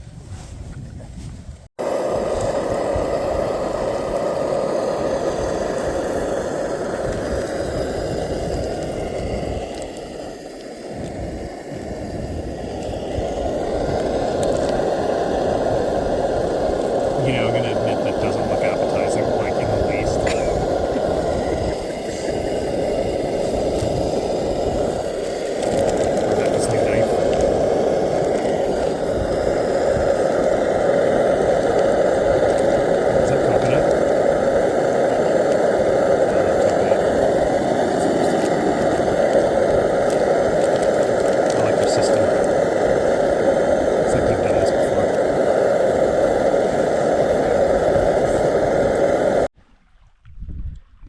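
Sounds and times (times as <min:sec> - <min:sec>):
camp stove burner roaring: 0:01.7 - 0:49.5.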